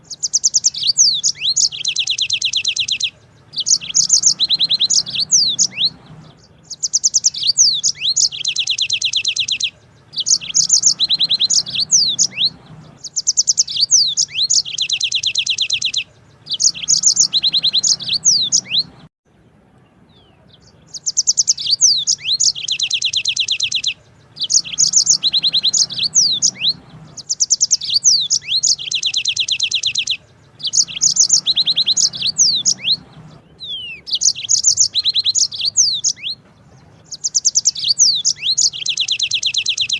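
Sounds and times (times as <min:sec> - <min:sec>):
canary singing rolling trills: 0:00.0 - 0:39.9.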